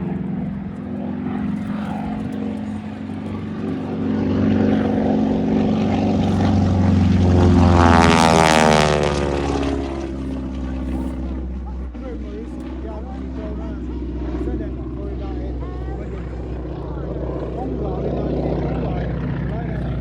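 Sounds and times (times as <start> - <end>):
propeller airplane flying past: 0.0 - 20.0.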